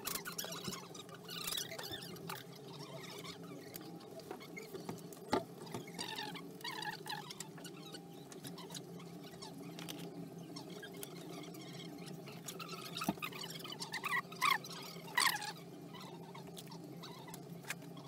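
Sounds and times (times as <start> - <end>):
steady workshop hum: 0.0 - 18.0.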